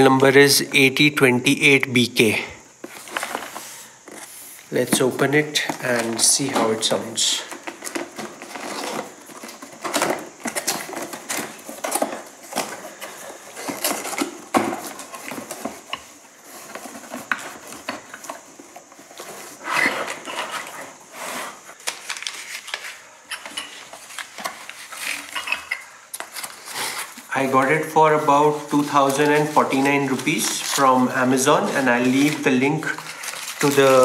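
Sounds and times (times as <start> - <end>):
cardboard and paper rustling: 2.8 - 34.0.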